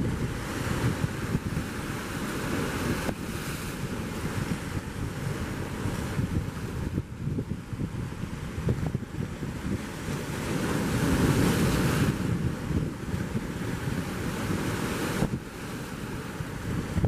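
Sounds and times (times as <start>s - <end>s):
choppy surf: 0.0s - 17.0s
wind buffeting microphone: 0.0s - 17.0s.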